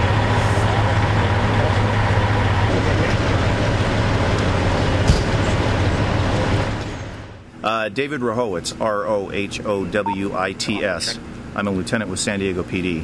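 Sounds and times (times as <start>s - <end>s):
diesel engine idling: 0.0s - 7.6s, 8.2s - 13.0s.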